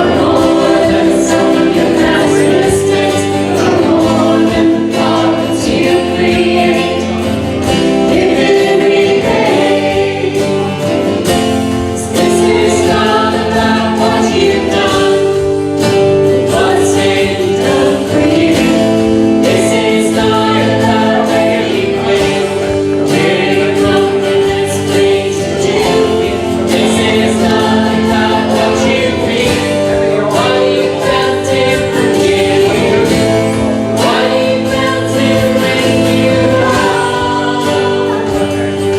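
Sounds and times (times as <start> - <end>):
congregation singing a hymn: 0.0 - 38.9
instrumental accompaniment: 0.0 - 38.9.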